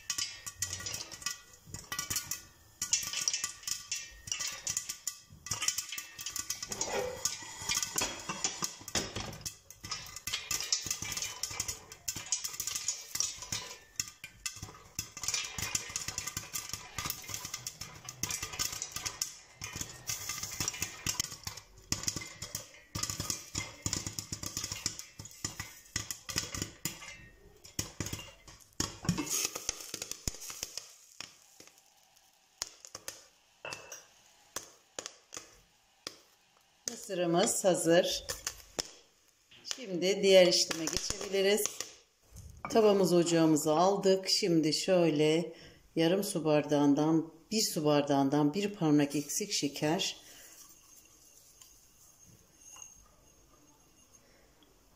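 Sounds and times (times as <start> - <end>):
popcorn popping: 0.0 - 44.1, 47.6 - 54.9
oil sizzling: 0.0 - 44.9, 47.3 - 54.9.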